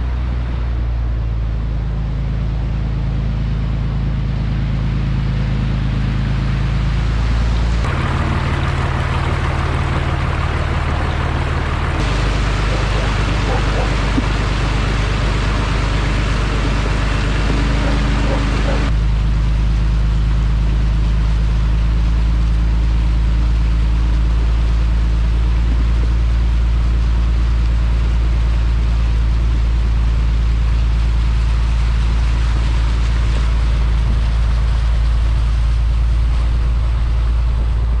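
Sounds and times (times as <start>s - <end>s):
road noise: 0.0s - 19.7s, 20.4s - 38.0s
vehicle engine drone: 0.0s - 38.0s.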